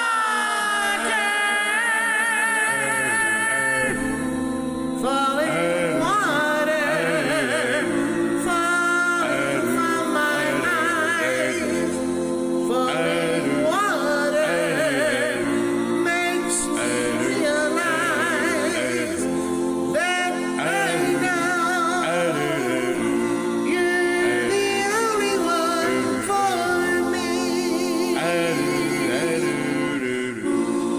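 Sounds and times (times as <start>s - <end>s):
layered harmony chords sung: 0.0s - 30.9s
man singing lead with vibrato: 0.0s - 30.9s.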